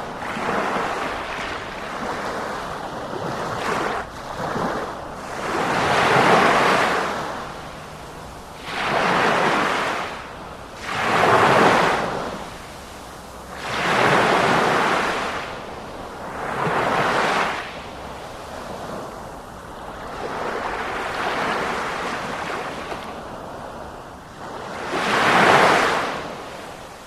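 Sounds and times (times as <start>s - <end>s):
sea waves breaking: 0.0s - 27.0s.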